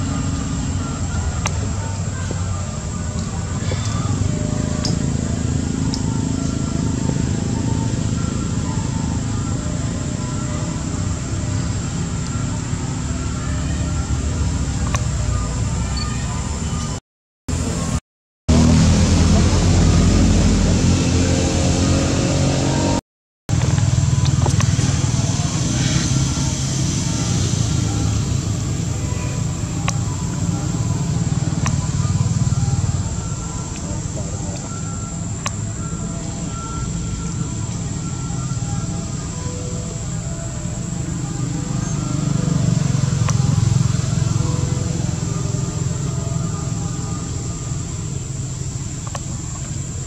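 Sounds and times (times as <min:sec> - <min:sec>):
engine rumbling: 0:00.0 - 0:50.0.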